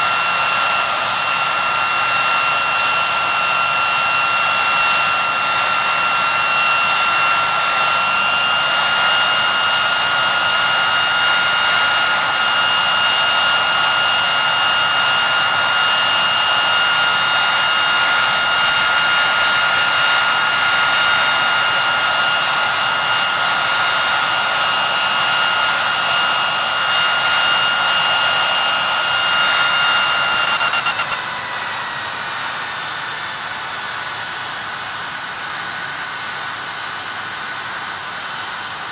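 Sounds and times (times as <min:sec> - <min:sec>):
jet engines roaring with whine: 0:00.0 - 0:38.9.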